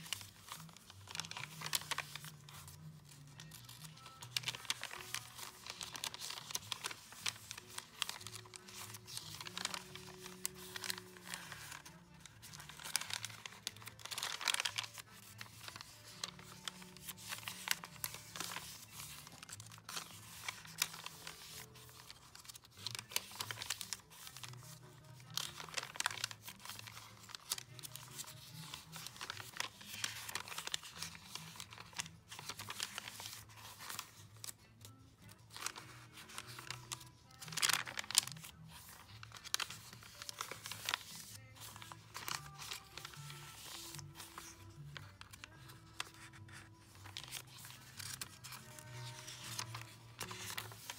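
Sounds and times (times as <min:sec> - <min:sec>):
paper pages rustling: 0:00.0 - 0:50.9
quiet background music: 0:00.0 - 0:50.9.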